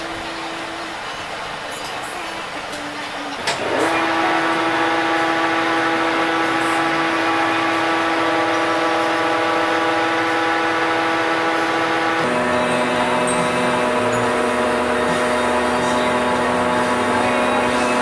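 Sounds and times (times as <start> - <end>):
metal lathe whining: 0.0 - 18.0.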